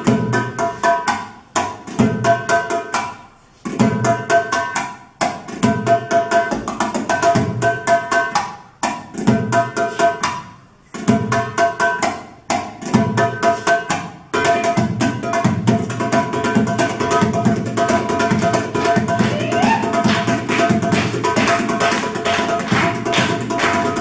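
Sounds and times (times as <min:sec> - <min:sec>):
hand drum strokes: 0:00.0 - 0:24.0.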